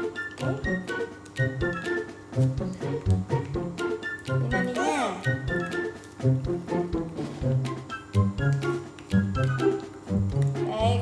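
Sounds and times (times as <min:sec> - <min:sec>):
light keyboard tune: 0:00.0 - 0:11.0.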